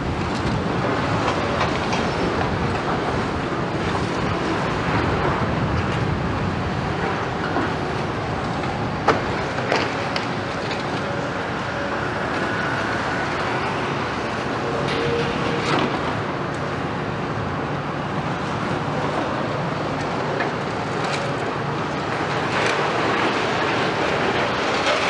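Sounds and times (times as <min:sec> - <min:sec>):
excavator diesel engines running: 0:00.0 - 0:25.0.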